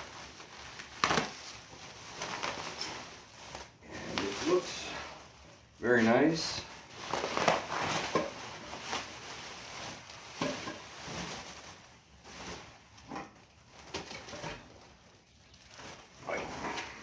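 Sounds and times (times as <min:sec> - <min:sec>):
packing materials rustling: 0:00.0 - 0:17.0.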